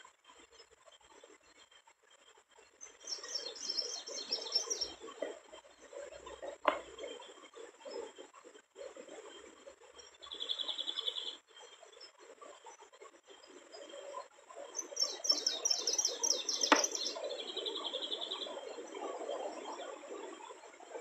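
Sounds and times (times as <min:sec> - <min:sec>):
small songbirds singing: 0:00.2 - 0:21.0.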